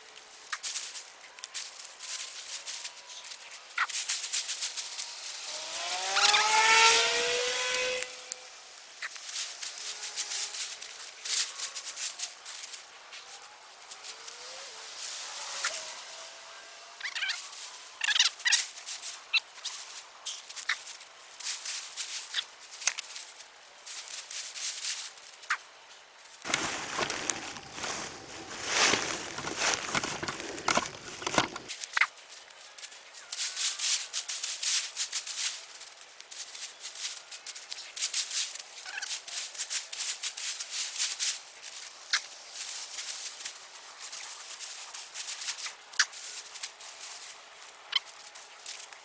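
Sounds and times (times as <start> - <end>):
dry foliage and soil rustling: 0.0 - 49.0.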